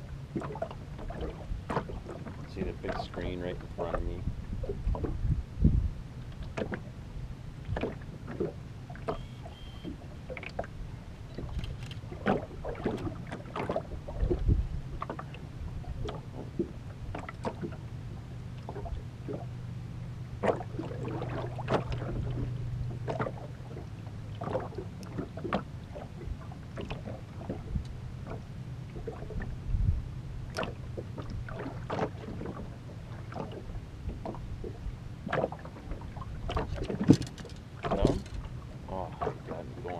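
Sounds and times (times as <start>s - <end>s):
steady low hum: 0.0s - 39.9s
waves slapping against metal hull: 0.0s - 39.9s.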